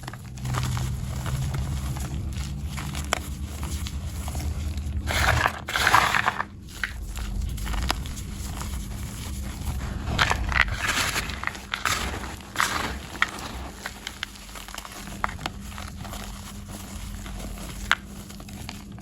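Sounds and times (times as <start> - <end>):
chalk blocks crunching: 0.0 - 19.0.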